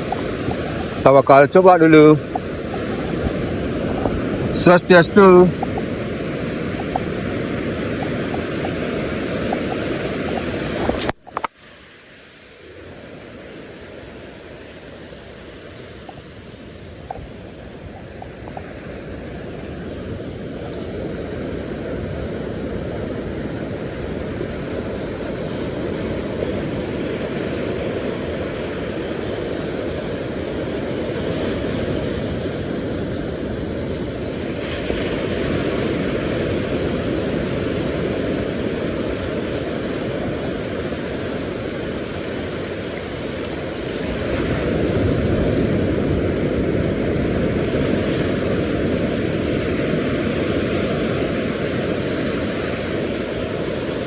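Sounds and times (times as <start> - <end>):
surf rumbling: 0.0 - 54.0
wind: 0.0 - 54.0.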